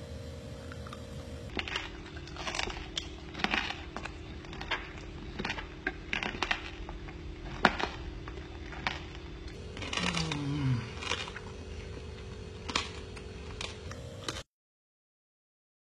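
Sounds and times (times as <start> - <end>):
faint steady hum: 0.0 - 14.5
person chewing: 0.5 - 14.4.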